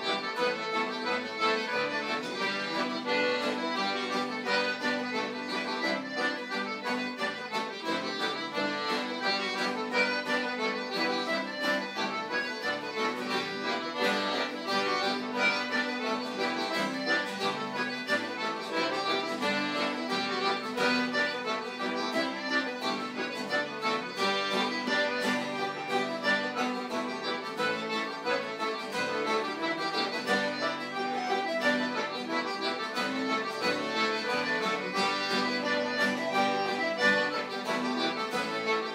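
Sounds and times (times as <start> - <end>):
traditional instrumental tune: 0.0 - 38.9.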